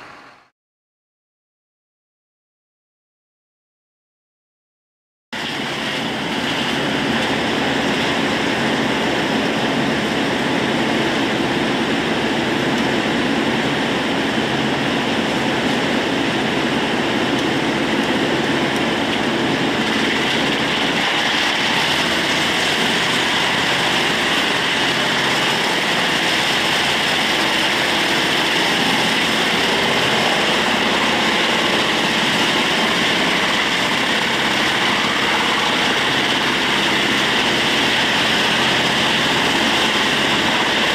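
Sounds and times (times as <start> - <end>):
wood chipper running: 5.4 - 40.9.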